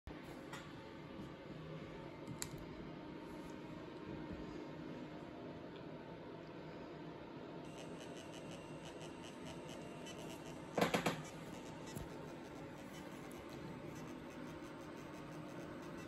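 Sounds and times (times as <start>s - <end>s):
faint steady hum: 0.1s - 16.0s.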